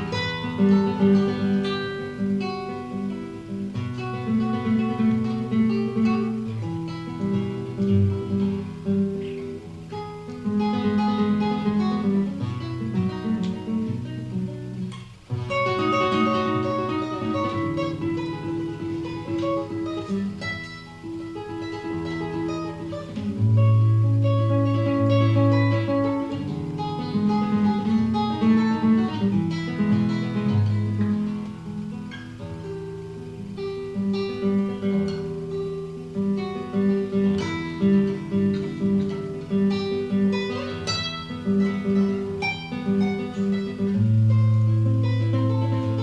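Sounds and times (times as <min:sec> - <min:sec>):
fingerstyle acoustic guitar: 0:00.0 - 0:46.0.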